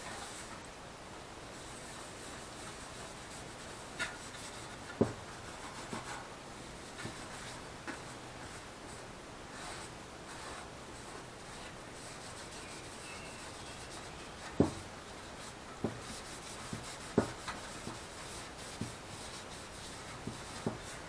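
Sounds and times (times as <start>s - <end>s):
rubbing and wiping: 0.0s - 0.6s, 1.5s - 21.0s.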